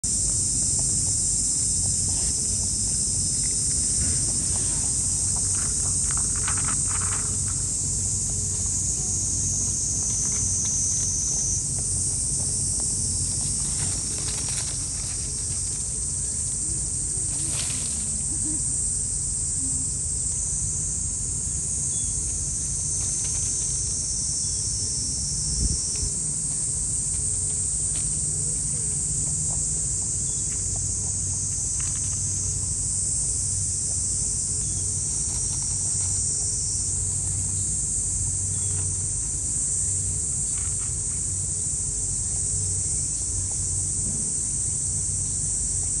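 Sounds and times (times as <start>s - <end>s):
insect chorus: 0.0s - 46.0s
low steady rumble: 0.0s - 46.0s.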